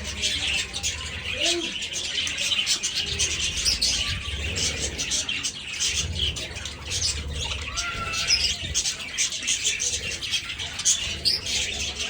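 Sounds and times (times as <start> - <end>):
budgerigars chattering and chirping: 0.0 - 12.0.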